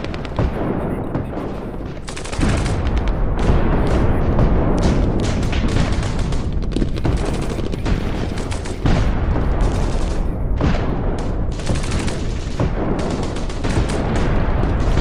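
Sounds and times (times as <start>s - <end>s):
airsoft guns firing bursts: 0.0s - 15.0s.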